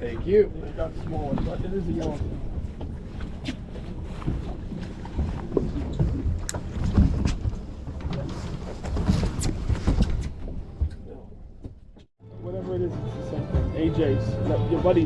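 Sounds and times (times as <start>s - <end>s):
knocks and clatter on a boat: 0.0s - 12.1s.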